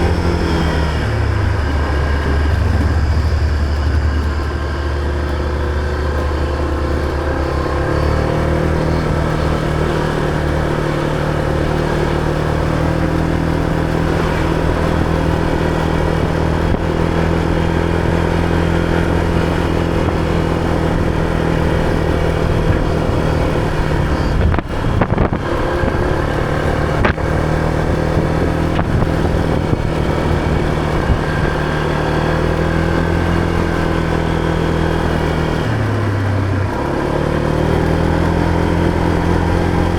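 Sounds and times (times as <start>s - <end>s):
motor scooter engine running: 0.0s - 39.9s.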